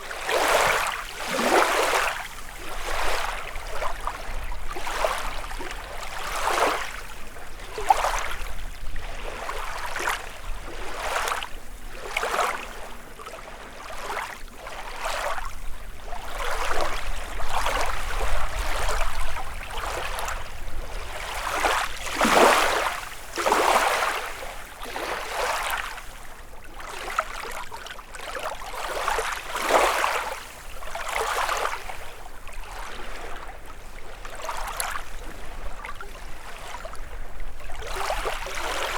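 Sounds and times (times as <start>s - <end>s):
waves lapping against shore: 0.0s - 38.9s.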